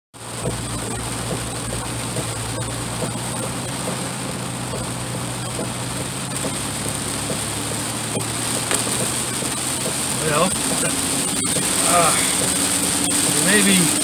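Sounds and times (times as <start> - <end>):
engine and road hum: 0.2 - 14.0
heavy rain on a vehicle roof: 0.2 - 14.0.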